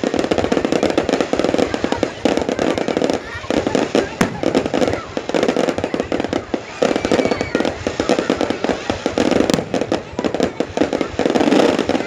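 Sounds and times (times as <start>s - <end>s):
fireworks crackling and banging: 0.0s - 12.0s
firework whistling glide: 0.1s - 12.0s.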